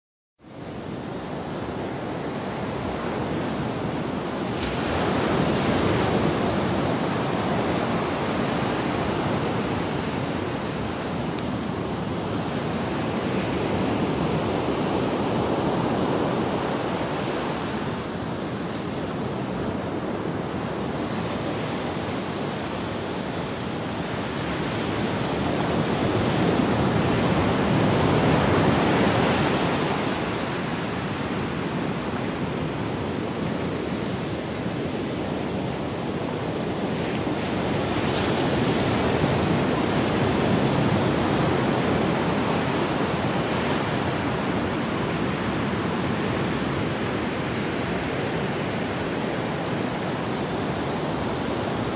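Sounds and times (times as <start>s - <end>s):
ocean surf breaking: 0.6s - 51.9s.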